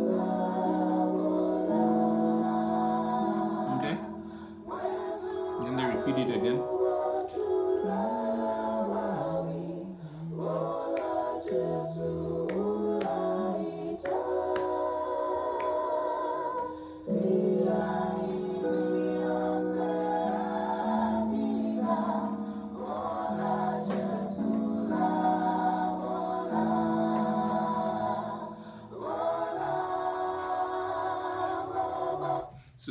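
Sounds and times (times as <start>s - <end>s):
vocal group singing in harmony: 0.0s - 32.9s.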